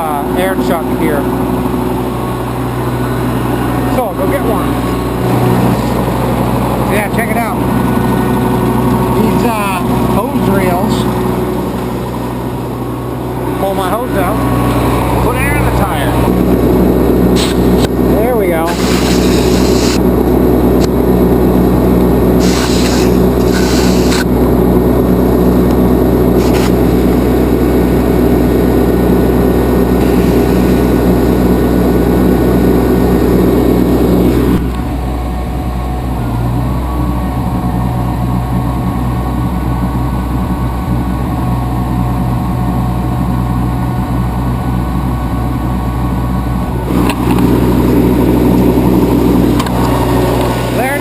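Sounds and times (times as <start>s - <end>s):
generator engine running: 0.0s - 51.0s.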